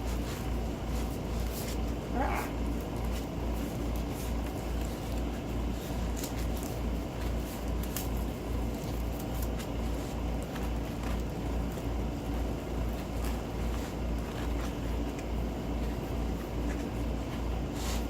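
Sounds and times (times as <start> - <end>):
clicks and crinkles of canvas: 0.0 - 18.0.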